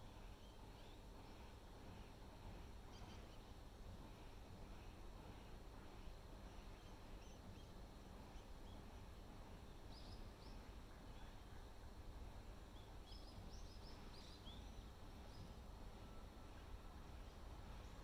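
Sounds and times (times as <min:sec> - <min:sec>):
faint low outdoor hum: 0:00.0 - 0:18.0.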